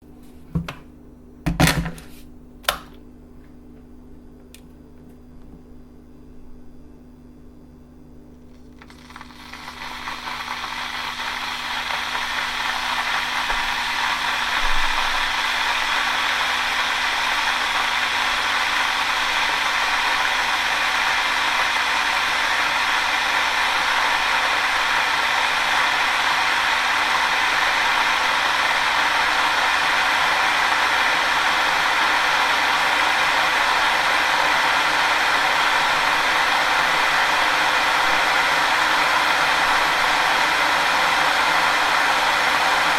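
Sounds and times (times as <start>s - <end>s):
electric kettle hissing: 8.4s - 42.9s.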